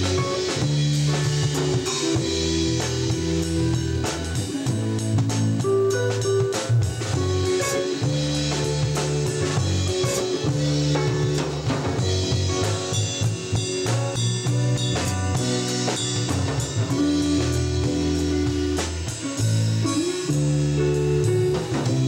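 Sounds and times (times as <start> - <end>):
drum kit hits: 0.0 - 22.0
live band playing: 0.0 - 22.0.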